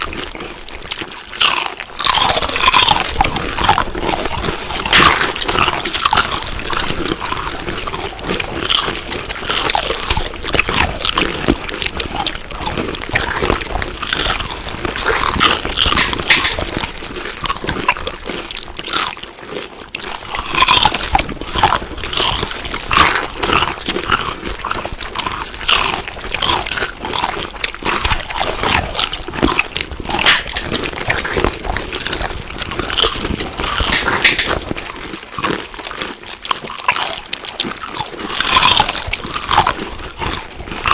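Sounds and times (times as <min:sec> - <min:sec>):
chewing crunchy food: 0:00.0 - 0:40.9.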